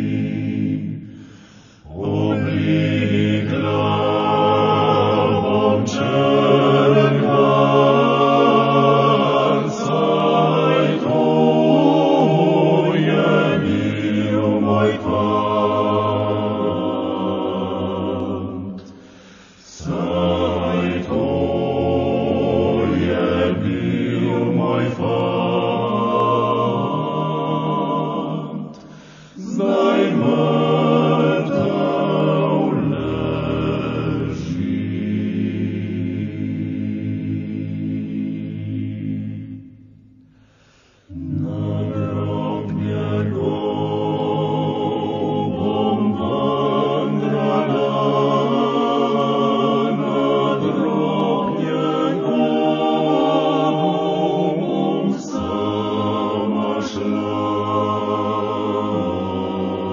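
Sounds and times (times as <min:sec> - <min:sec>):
choir chanting: 0:00.0 - 0:59.9.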